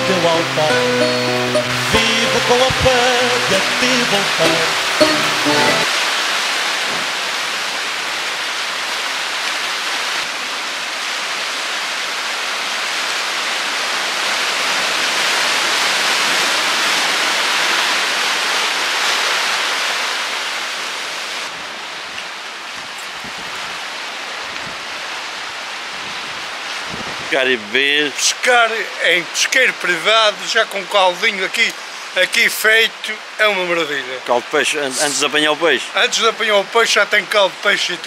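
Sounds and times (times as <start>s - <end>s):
surf washing over rocks: 0.0s - 38.0s.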